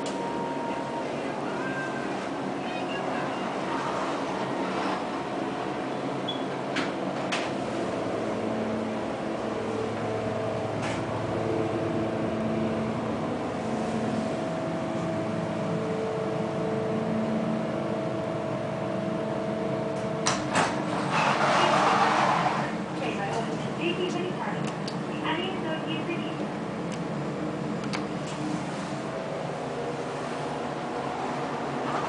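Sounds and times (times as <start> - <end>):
elevator hum with whine: 0.0 - 32.0.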